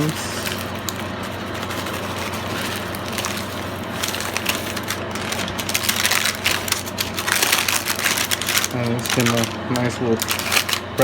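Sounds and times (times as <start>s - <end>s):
candy clicks and crunches: 0.0s - 11.0s
steady low hum: 0.0s - 11.0s.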